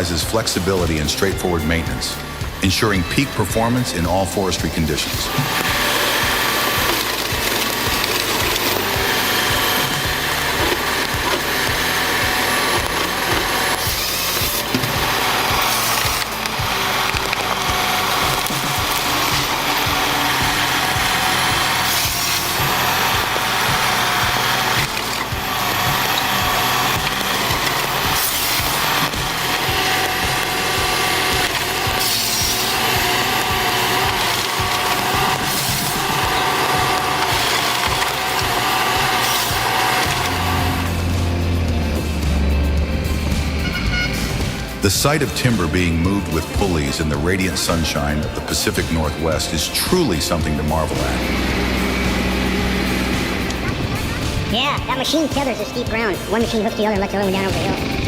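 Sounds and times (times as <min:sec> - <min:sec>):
harvester head sawing a log: 0:00.0 - 0:58.0
steady machine noise: 0:00.0 - 0:58.0.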